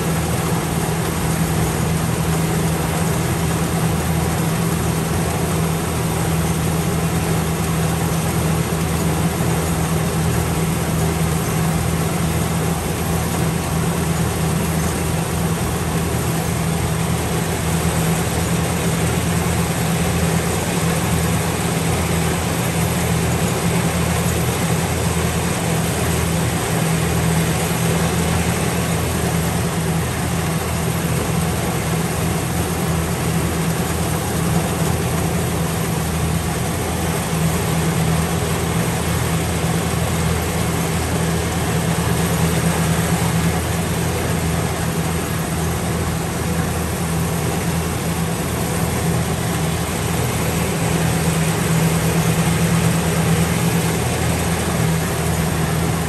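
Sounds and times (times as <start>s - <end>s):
harvester engine running: 0.0s - 56.0s.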